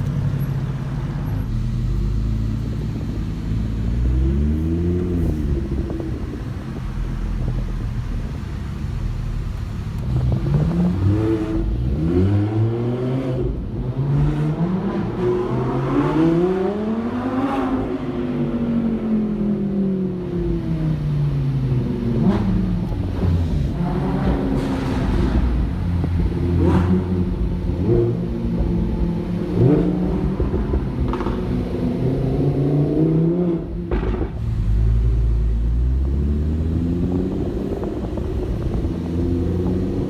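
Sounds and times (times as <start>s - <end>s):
sports car engine accelerating: 0.0s - 40.0s.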